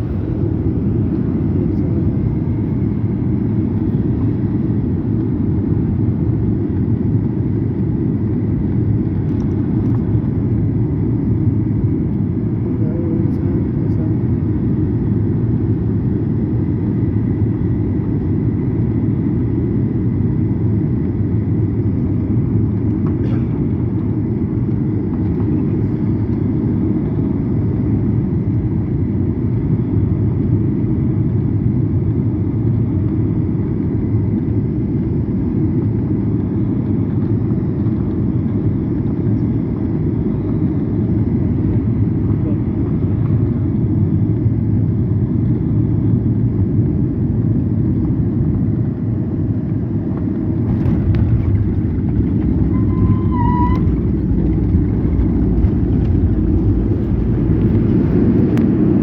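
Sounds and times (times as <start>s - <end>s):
airplane landing rumble: 0.0s - 59.0s.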